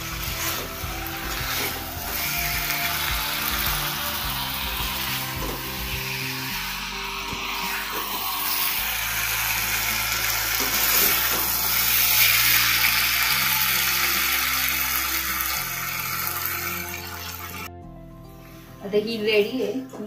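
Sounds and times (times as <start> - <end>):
food sizzling in a frying pan: 0.0 - 17.7
background music of low notes: 0.0 - 20.0.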